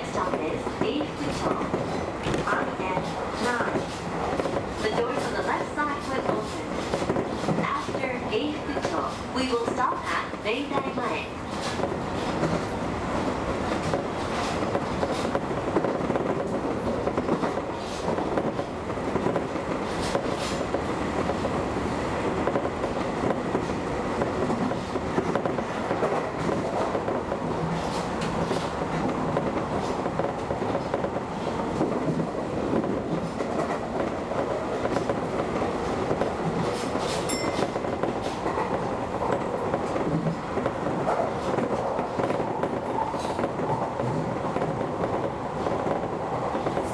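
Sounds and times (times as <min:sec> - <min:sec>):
rail joint clicks: 0:00.0 - 0:46.9
train wheels rumbling on rail: 0:00.0 - 0:46.9.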